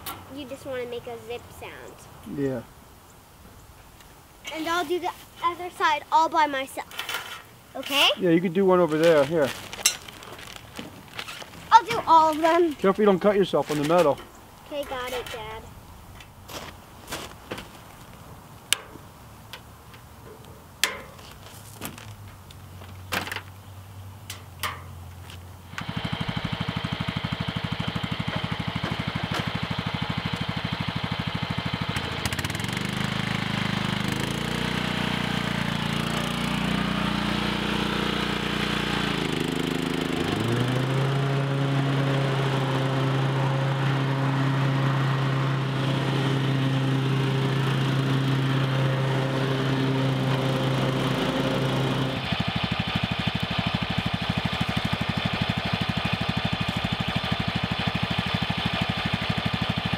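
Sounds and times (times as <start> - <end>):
lawn mower engine running: 4.4 - 23.4, 24.4 - 59.9.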